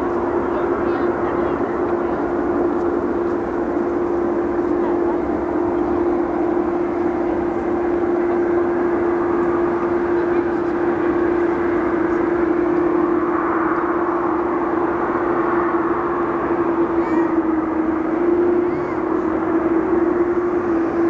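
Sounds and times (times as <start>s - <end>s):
constant tone: 0.0s - 21.0s
jet turbine drone: 0.0s - 21.0s.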